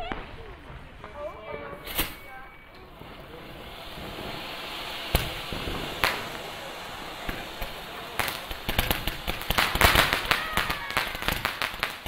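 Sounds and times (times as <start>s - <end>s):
background noise: 0.0s - 12.0s
firework shells bursting: 0.0s - 12.0s
rapid crackle of fireworks: 0.0s - 12.0s.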